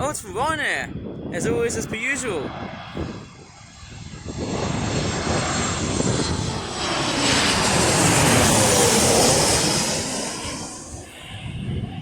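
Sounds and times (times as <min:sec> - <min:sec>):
jet plane passing: 0:00.8 - 0:12.0.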